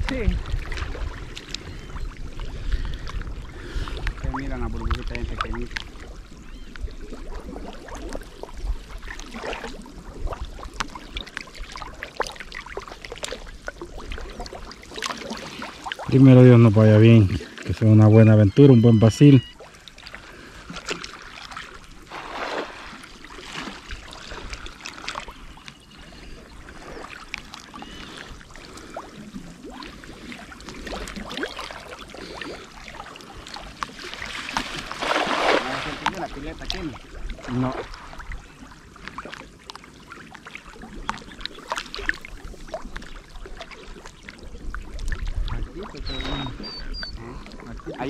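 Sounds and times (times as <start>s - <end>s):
rush of water: 0.0s - 48.0s
water splashing and sloshing: 0.0s - 48.0s.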